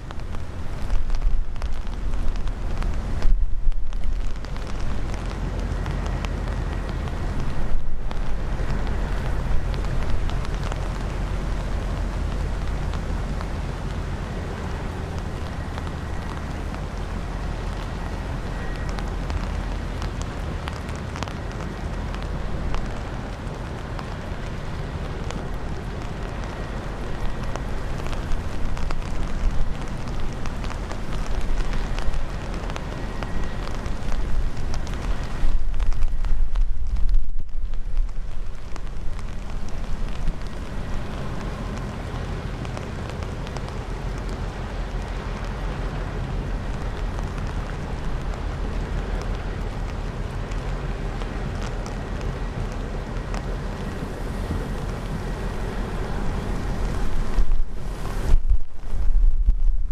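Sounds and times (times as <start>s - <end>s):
light rain ticks: 0.0s - 59.9s
wind buffeting microphone: 0.0s - 59.9s.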